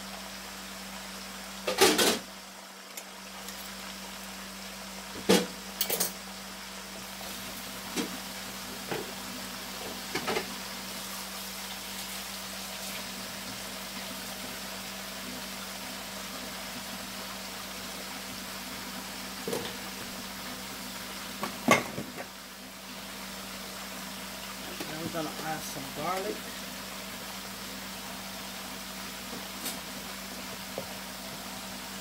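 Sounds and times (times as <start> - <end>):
meat sizzling in a frying pan: 0.0 - 32.0.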